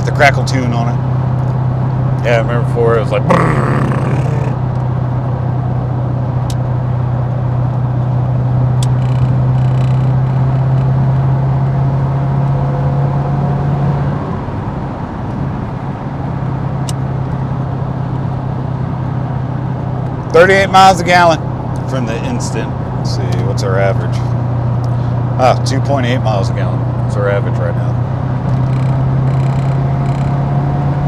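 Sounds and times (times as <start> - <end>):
car engine droning: 0.0 - 31.0.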